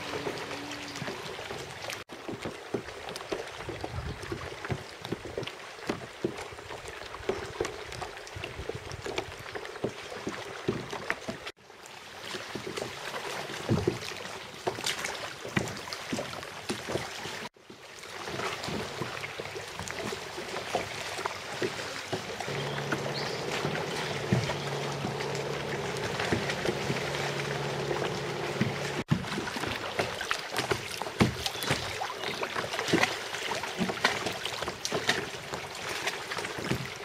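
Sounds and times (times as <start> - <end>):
paddle splashes and drips: 0.0 - 37.0
water lapping at hull: 0.0 - 37.0.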